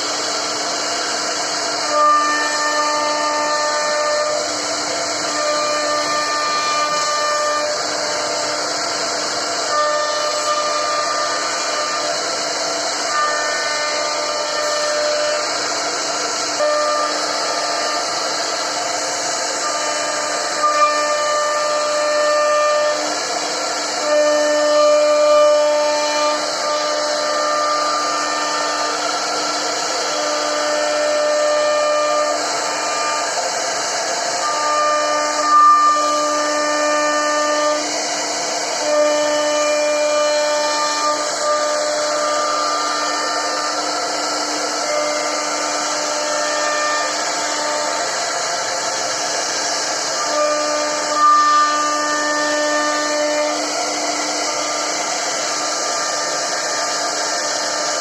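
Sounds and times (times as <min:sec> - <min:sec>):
router motors whining: 0:00.0 - 0:58.0
spindle hissing cutting wood: 0:00.0 - 0:58.0
steady machine hum: 0:00.0 - 0:58.0.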